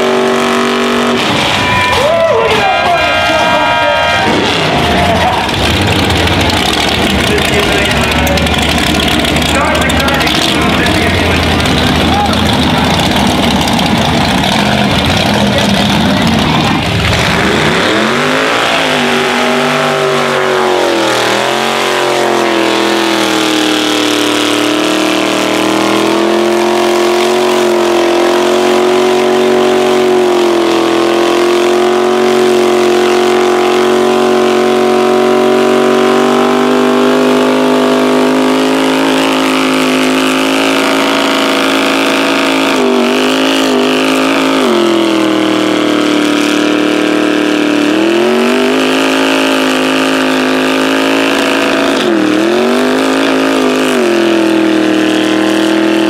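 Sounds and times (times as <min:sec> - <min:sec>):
truck engine revving at full throttle: 0:00.0 - 0:56.0.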